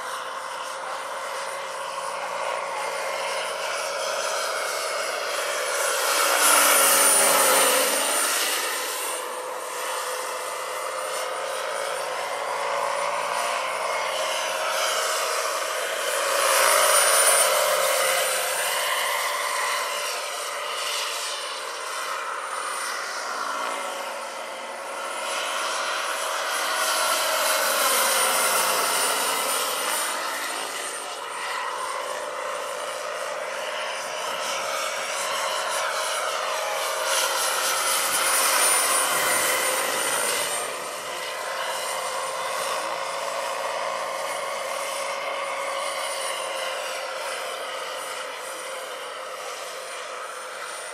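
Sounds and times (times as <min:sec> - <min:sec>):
helicopter rotor noise: 0:00.0 - 0:50.9
model helicopter turbine whine: 0:00.0 - 0:50.9.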